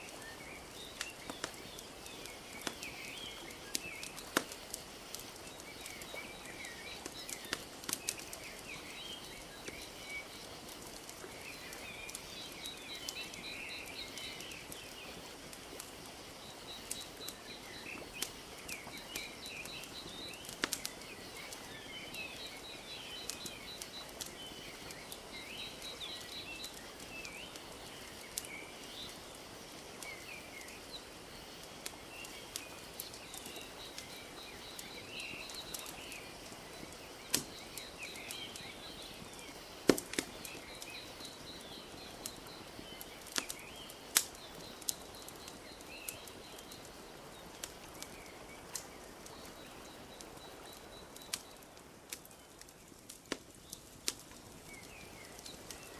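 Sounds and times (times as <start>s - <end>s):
small birds chirping and trilling: 0.0s - 55.9s
wood fire crackling and popping: 0.0s - 55.9s.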